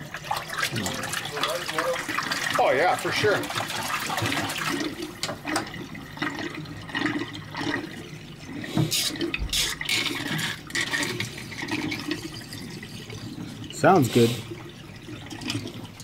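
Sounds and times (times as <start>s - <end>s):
water gurgling down sink drain: 0.0s - 16.0s
water splashes: 0.0s - 16.0s.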